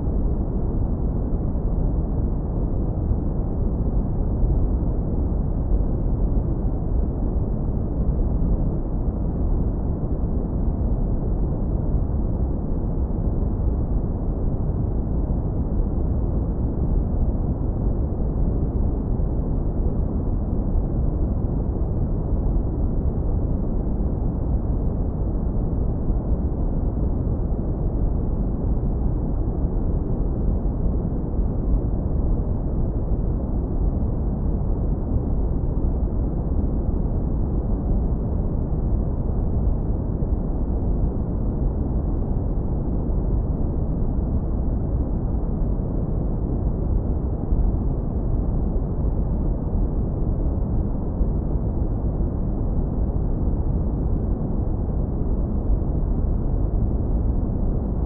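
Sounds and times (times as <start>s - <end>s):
deep brown noise rumble: 0.0s - 58.0s.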